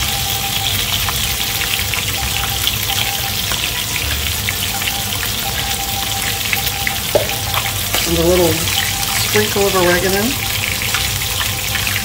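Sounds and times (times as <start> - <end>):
chicken sizzling in hot oil: 0.0 - 12.0
vent fan humming: 0.0 - 12.0.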